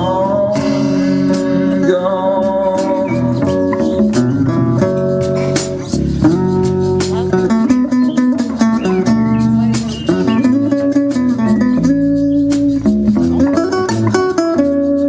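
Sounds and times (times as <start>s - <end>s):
guitar melodic lead: 0.0s - 15.0s.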